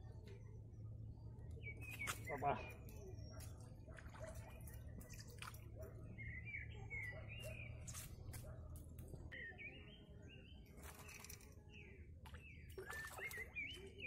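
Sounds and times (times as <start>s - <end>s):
small birds chirping and singing: 0.0s - 14.0s.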